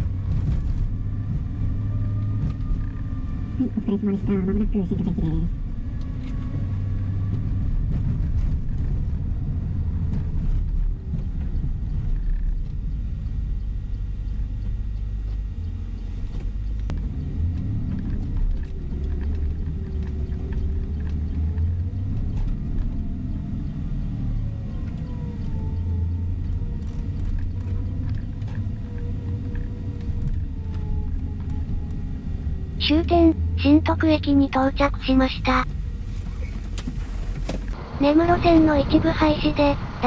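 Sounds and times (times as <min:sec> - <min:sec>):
coach engine and road rumble: 0:00.0 - 0:40.0.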